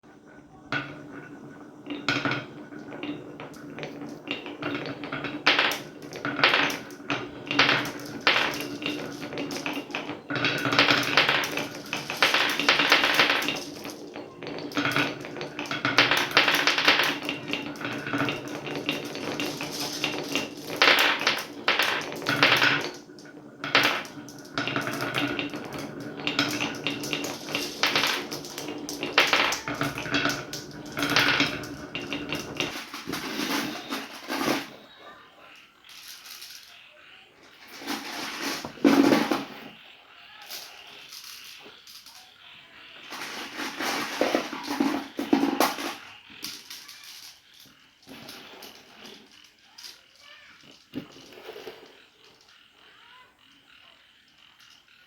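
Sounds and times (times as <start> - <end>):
marbles rattling down wooden run: 0.6 - 55.0.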